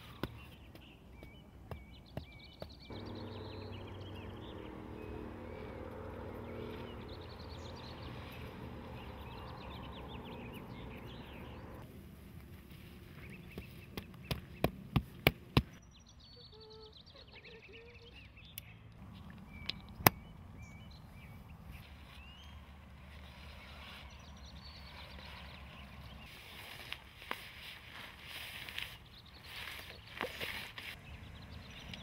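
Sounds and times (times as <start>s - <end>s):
birds chirping: 0.0s - 11.8s, 13.1s - 32.0s.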